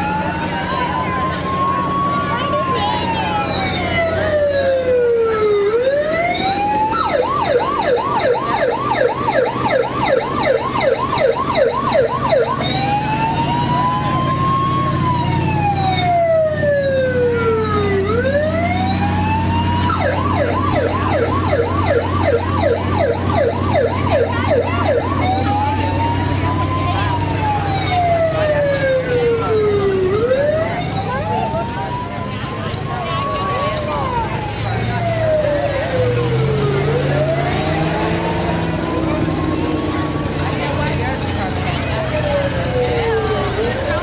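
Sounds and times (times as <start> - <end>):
fire engine siren wailing and yelping: 0.0 - 44.0
low engine hum: 0.0 - 44.0.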